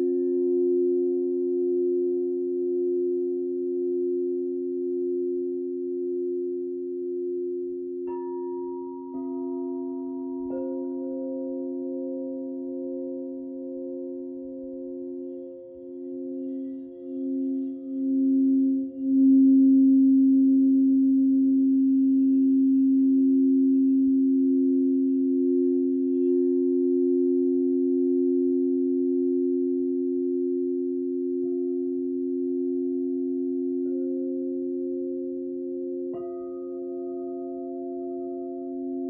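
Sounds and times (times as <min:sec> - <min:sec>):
crystal singing bowls ringing: 0:00.0 - 0:39.0.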